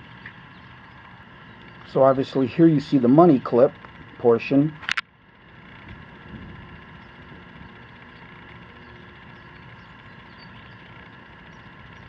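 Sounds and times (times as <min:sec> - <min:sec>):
faint steady tones: 0:00.0 - 0:12.0
machine hum: 0:00.0 - 0:12.0.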